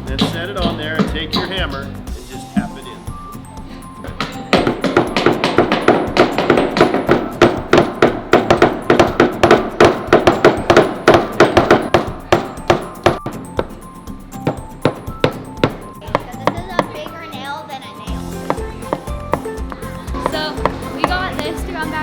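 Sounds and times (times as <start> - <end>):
hammer tapping wood: 0.2 - 1.9, 4.0 - 17.0, 18.4 - 21.6.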